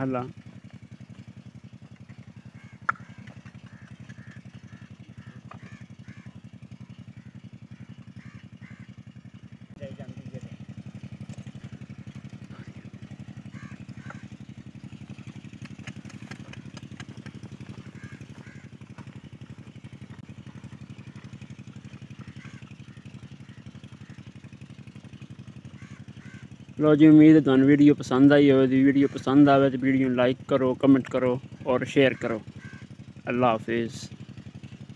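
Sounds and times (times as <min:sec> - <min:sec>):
small engine chugging: 0:00.0 - 0:34.9.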